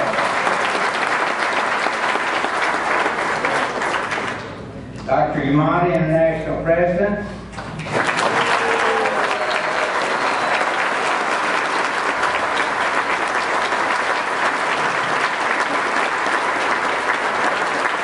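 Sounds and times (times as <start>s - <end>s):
large audience applauding: 0.0s - 4.5s, 7.6s - 18.0s.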